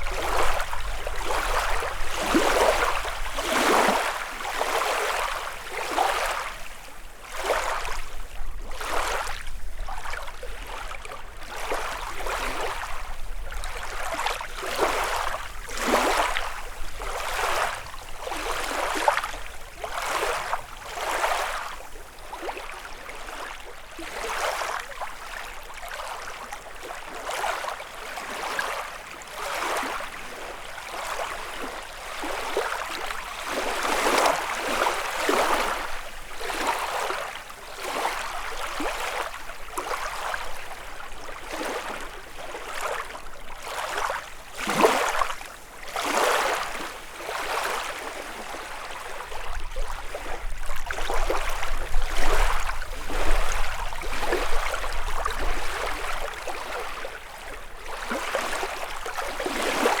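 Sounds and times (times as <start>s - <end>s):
small waves lapping on shore: 0.0s - 60.0s.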